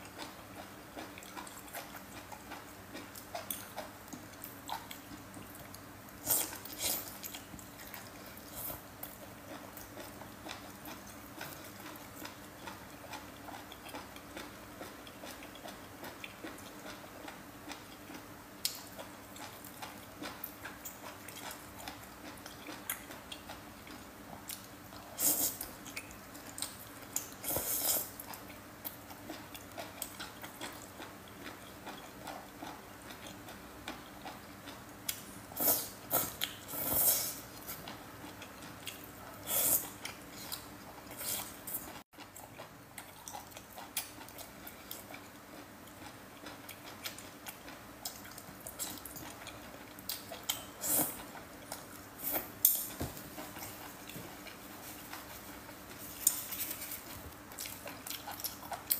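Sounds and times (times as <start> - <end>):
slurping and chewing: 0.1 - 58.9.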